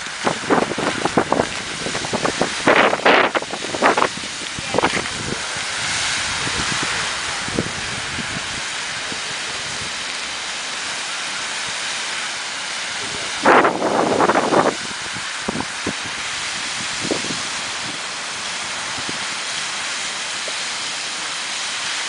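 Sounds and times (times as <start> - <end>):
geyser rushing hiss: 0.0 - 22.0.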